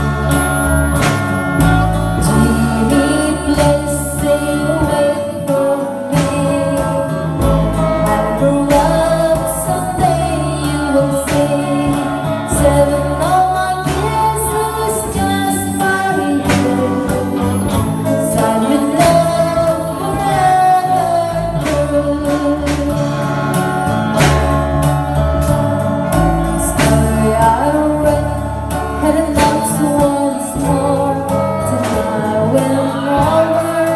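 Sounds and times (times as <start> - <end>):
bass and drums beat: 0.0 - 33.9
electric guitar: 0.0 - 33.9
woman singing into microphone: 0.0 - 33.9.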